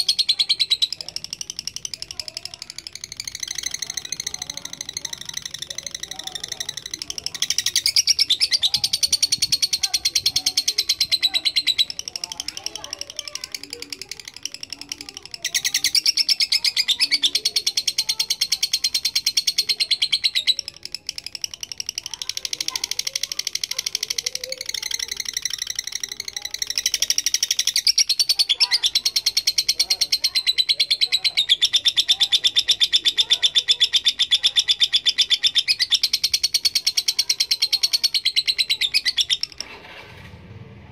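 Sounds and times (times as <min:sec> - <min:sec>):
lovebird chattering chirps: 0:00.0 - 0:39.7.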